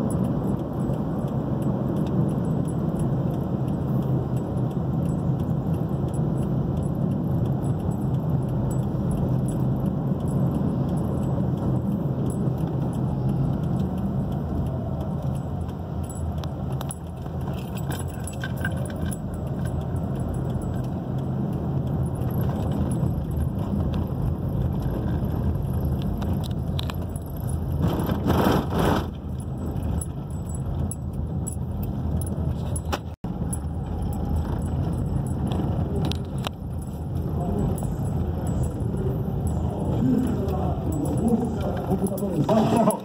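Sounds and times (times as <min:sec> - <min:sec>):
car engine and tyre rumble: 0:00.0 - 0:43.0
light rattling clicks: 0:00.0 - 0:43.0.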